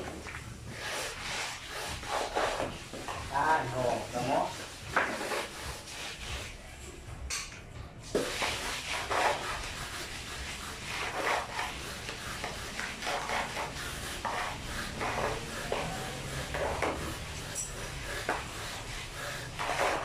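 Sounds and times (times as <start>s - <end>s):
plastering tool scraping cement: 0.0s - 6.6s, 8.1s - 20.0s.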